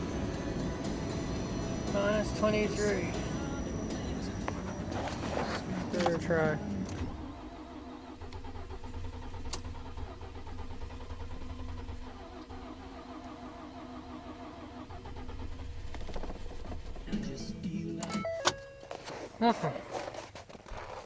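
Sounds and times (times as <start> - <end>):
starter motor cranking engine: 0.0 - 17.4.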